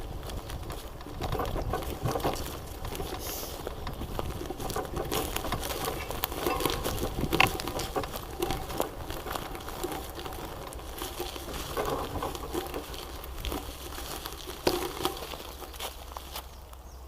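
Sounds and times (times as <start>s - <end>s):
rustling and crackling: 0.0s - 17.0s.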